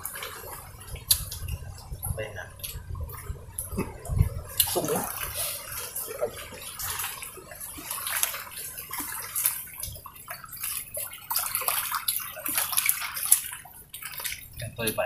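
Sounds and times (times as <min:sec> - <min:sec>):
water lapping against shore: 0:00.0 - 0:15.0.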